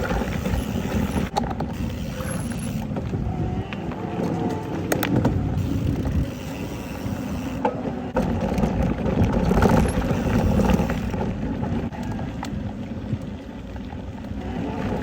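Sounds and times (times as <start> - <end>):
bicycle road noise: 0.0 - 15.0
wind rumble: 0.0 - 15.0.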